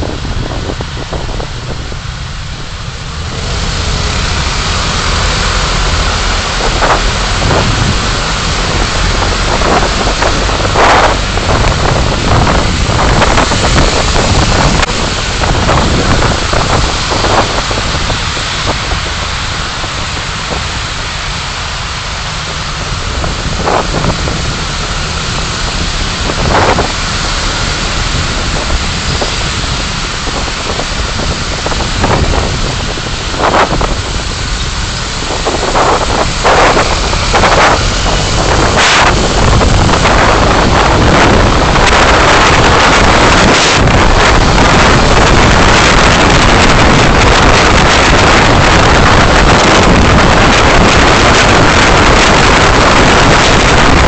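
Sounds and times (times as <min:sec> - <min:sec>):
car driving noise: 0:00.0 - 0:54.0.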